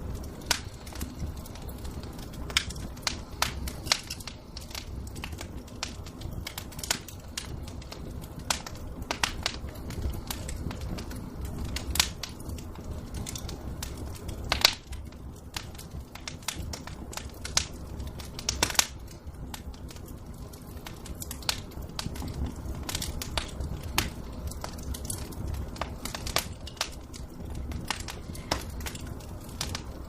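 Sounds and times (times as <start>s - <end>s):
fire popping: 0.0s - 30.0s
low rumble of fire: 0.0s - 30.0s
wood fire crackling: 0.0s - 30.0s.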